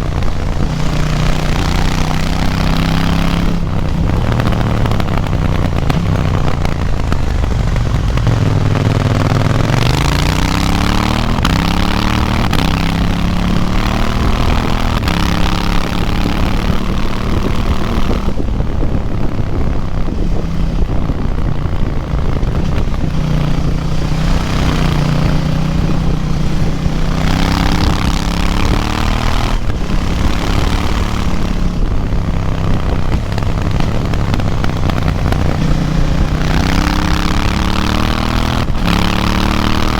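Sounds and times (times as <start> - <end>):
motorcycle engine revving: 0.0 - 39.9
rushing wind noise: 0.0 - 39.9.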